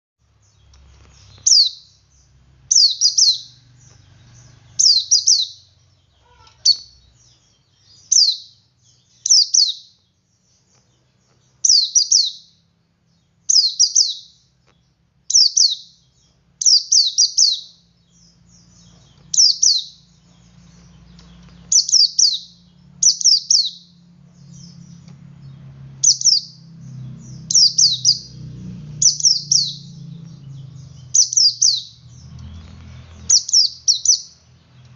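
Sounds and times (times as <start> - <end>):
faint low hum: 0.2 - 34.9
bird high chirps: 0.3 - 34.9.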